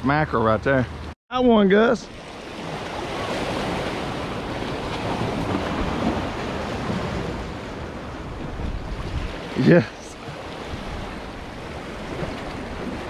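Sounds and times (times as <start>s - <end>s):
wind rumbling on microphone: 2.5s - 13.0s.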